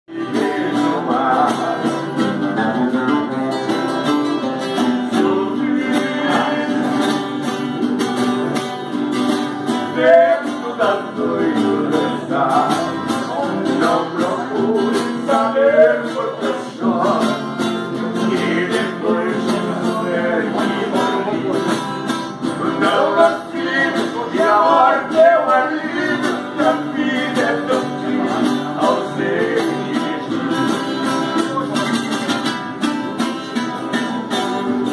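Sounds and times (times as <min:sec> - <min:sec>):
person singing: 0:00.1 - 0:07.4, 0:09.7 - 0:31.3
acoustic guitar playing: 0:00.1 - 0:34.9.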